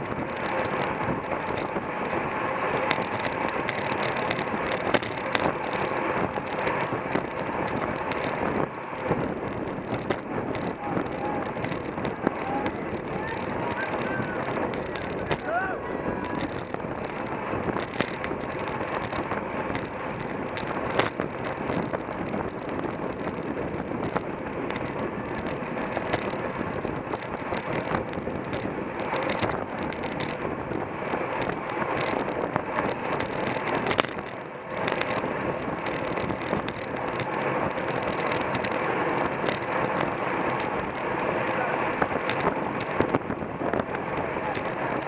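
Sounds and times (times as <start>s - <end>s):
bicycle tyre and drivetrain noise: 0.0s - 45.0s
wind rushing on microphone: 0.0s - 45.0s.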